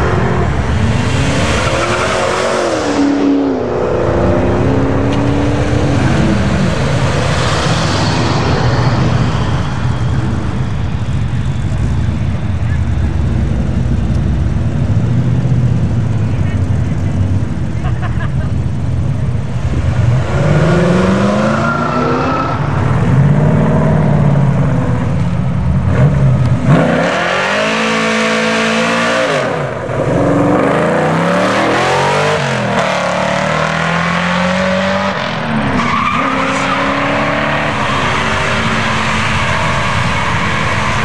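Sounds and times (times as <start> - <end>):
car engines revving hard: 0.0 - 41.0
tires screeching: 0.0 - 41.0.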